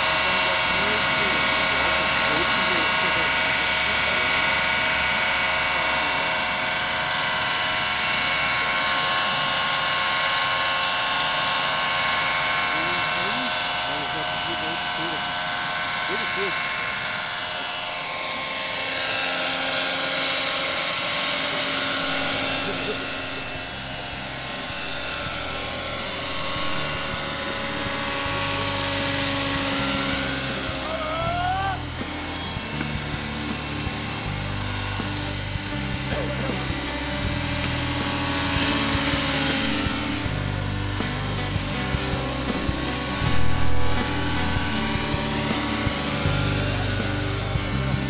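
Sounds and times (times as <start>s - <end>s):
model helicopter rotor whine: 0.0s - 48.0s.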